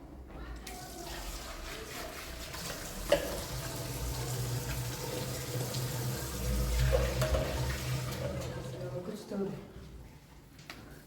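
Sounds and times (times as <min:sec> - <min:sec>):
water running: 0:00.6 - 0:09.5.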